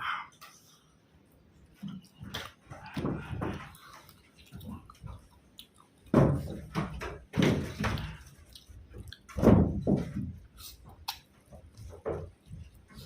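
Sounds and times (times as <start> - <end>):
person chewing and smacking food: 0.5 - 13.0.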